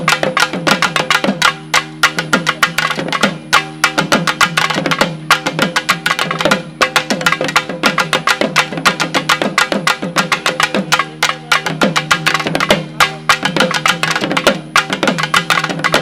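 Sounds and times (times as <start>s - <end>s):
fast drum strokes: 0.0s - 16.0s
reed pipe holding notes: 0.0s - 16.0s.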